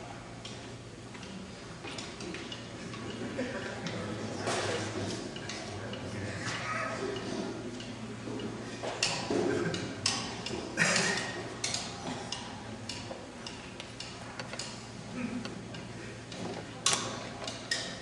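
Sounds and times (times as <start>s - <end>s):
murmur of voices: 0.0s - 18.0s.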